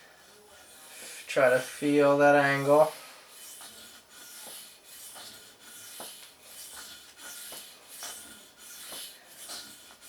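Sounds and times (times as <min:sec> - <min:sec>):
knife scraping on whetstone: 0:00.1 - 0:10.0.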